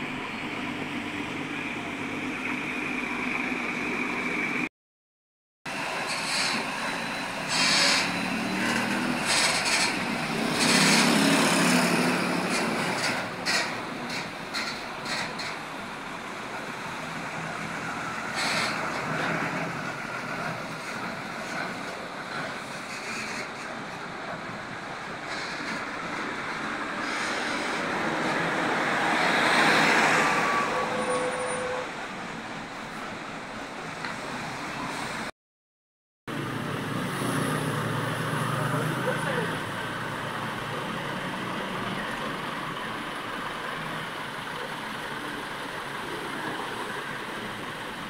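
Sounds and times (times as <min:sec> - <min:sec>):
tyre and road noise: 0:00.0 - 0:04.7, 0:05.7 - 0:35.3, 0:36.3 - 0:48.0
truck engine under load: 0:05.7 - 0:35.3, 0:36.3 - 0:48.0.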